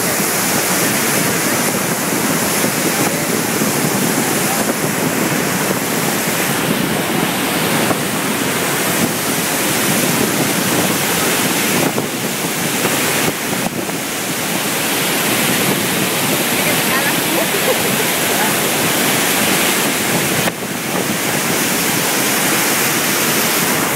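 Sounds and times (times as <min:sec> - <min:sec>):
floodwater rushing through dam: 0:00.0 - 0:23.9.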